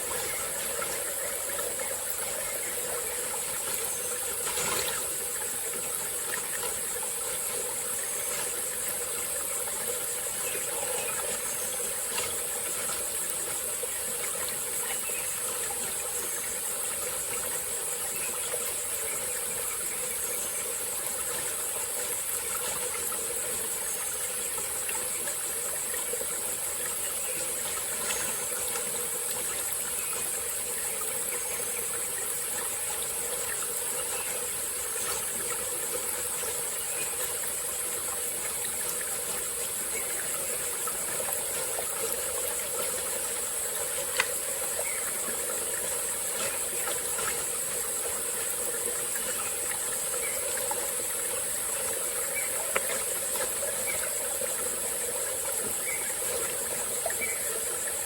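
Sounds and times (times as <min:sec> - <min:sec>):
high-pitched insect chorus: 0:00.0 - 0:58.0
stream running and gurgling: 0:00.0 - 0:58.0.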